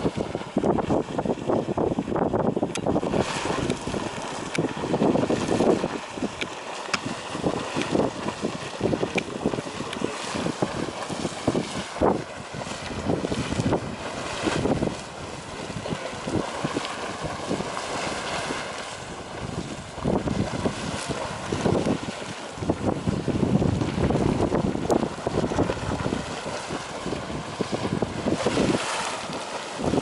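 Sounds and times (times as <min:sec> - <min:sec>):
water gushing and splashing: 0:00.0 - 0:30.0
wind on microphone: 0:00.0 - 0:30.0.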